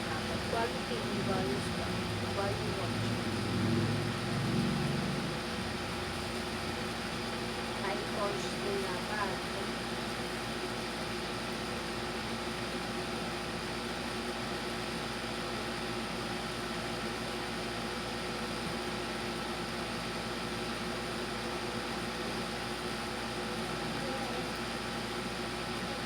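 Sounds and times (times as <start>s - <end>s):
household appliance humming: 0.0s - 26.0s.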